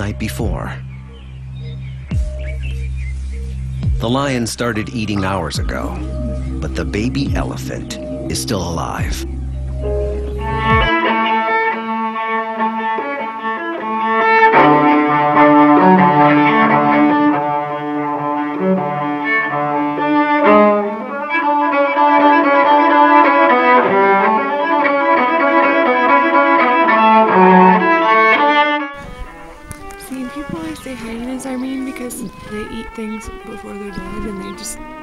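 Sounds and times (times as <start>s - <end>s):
bowed strings music: 0.0s - 35.0s.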